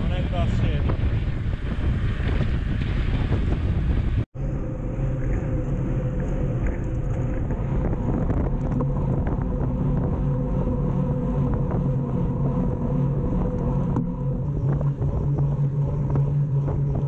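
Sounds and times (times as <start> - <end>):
steady hum: 0.0 - 17.0
wind buffeting microphone: 0.0 - 17.0.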